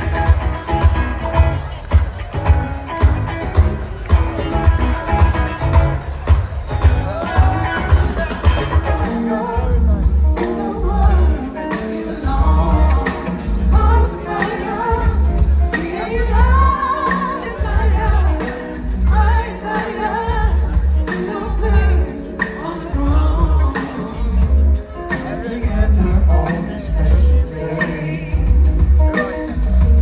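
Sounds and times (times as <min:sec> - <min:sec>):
heavy bass line: 0:00.0 - 0:19.5, 0:20.3 - 0:22.1, 0:23.0 - 0:30.0
live band over sound system: 0:00.0 - 0:30.0
lead vocalist singing: 0:03.5 - 0:30.0.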